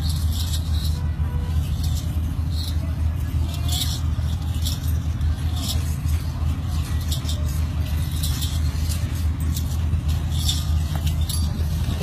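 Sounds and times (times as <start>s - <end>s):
metallic jingling: 0.0s - 12.0s
steady low rumble: 0.0s - 12.0s.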